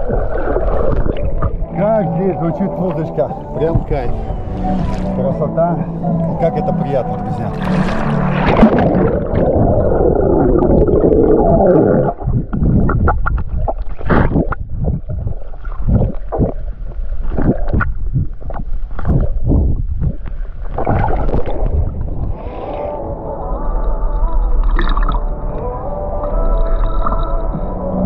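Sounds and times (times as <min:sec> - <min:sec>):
muffled water sloshing: 0:00.0 - 0:28.0
underwater bubbling and gurgling: 0:00.0 - 0:28.0.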